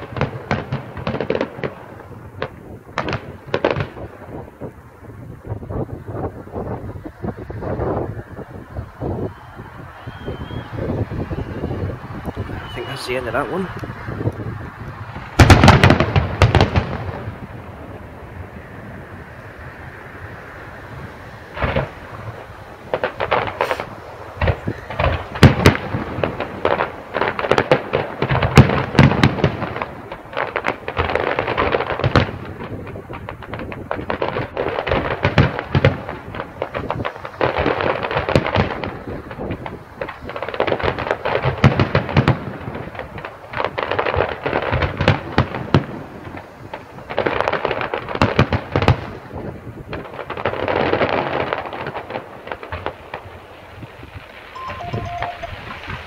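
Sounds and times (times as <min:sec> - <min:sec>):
fireworks bangs: 0:00.0 - 0:19.0, 0:20.8 - 0:56.0
fireworks crackling: 0:00.0 - 0:56.0.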